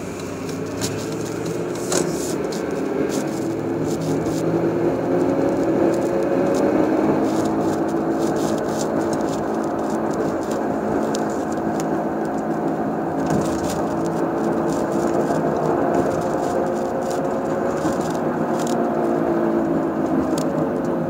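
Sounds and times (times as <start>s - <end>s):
road noise: 0.0s - 21.0s
whining drone from car: 0.0s - 21.0s.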